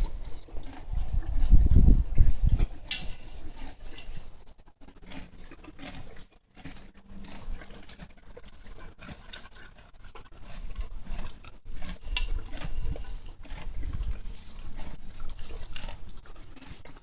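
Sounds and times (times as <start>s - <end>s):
horse chewing: 0.0s - 17.0s.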